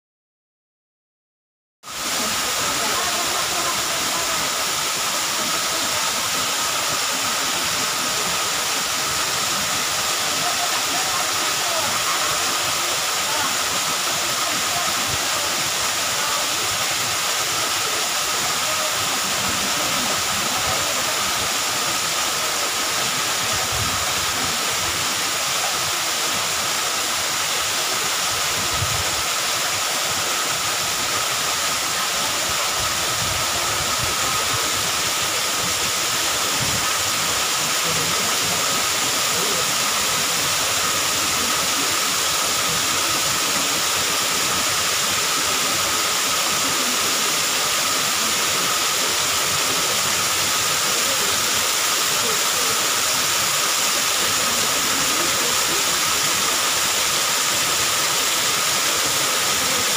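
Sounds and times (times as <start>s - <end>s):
waterfall rushing and splashing: 1.8s - 59.9s.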